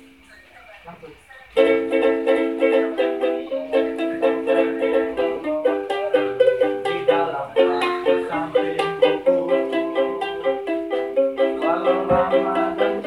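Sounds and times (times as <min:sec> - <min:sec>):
small acoustic string instrument strummed: 0:01.6 - 0:13.0.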